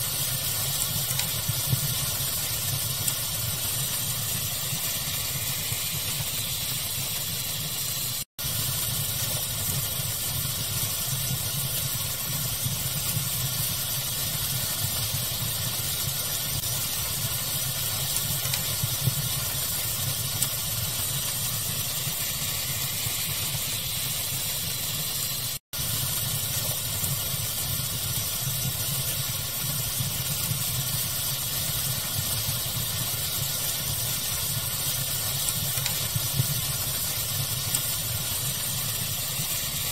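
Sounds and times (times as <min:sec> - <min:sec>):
fire crackling: 0:00.0 - 0:39.9
steady hiss: 0:00.0 - 0:39.9.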